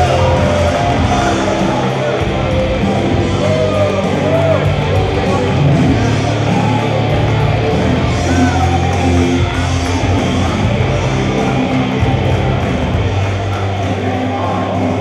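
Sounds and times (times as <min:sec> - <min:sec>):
hard rock music: 0:00.0 - 0:15.0.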